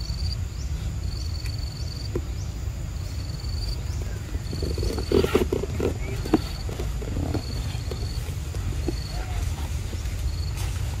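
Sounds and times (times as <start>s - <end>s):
insect trilling: 0.0s - 10.6s.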